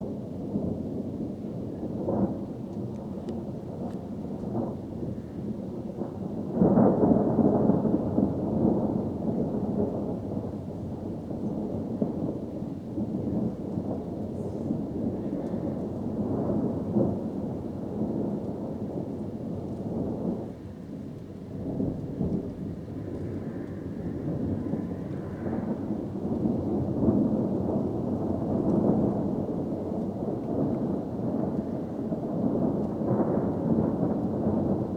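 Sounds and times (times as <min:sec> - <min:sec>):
thunder rumbling: 0:00.0 - 0:34.9.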